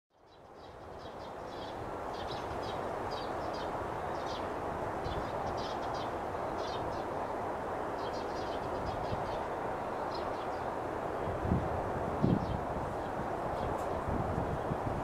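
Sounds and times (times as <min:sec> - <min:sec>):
steady rushing noise: 0:00.4 - 0:15.0.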